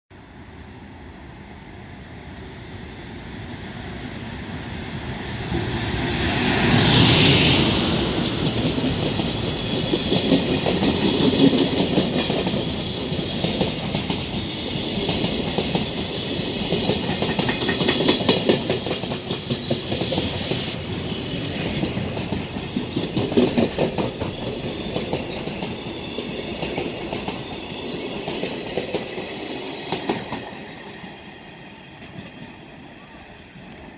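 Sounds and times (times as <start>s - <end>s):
electric locomotive passing: 0.2s - 33.9s.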